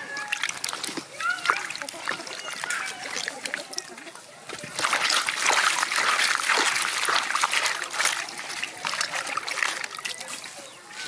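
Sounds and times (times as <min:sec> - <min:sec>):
hands rubbing leaves in water: 0:00.0 - 0:11.0
water splashing and sloshing: 0:00.0 - 0:11.0.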